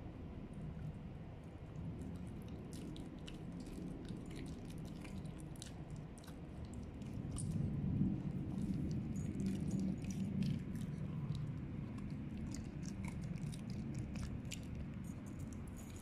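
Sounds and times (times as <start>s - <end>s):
dog chewing dental chew: 1.8s - 16.0s.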